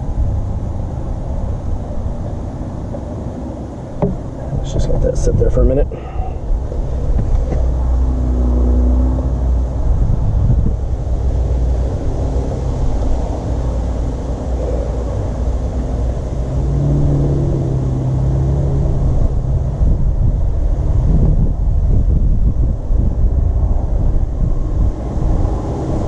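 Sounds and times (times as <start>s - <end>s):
passing vehicle engine hum: 0.0s - 26.0s
traffic rumble: 0.0s - 26.0s
wind on microphone: 0.0s - 26.0s.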